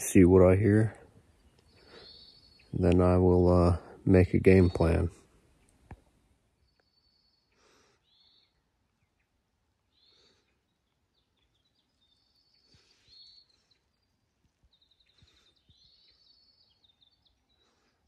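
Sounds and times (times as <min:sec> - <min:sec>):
faint songbirds singing: 0:00.0 - 0:18.0.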